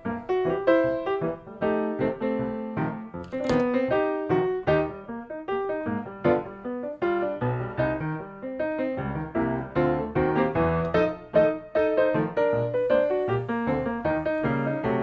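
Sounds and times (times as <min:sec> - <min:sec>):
piano tune: 0:00.0 - 0:15.0.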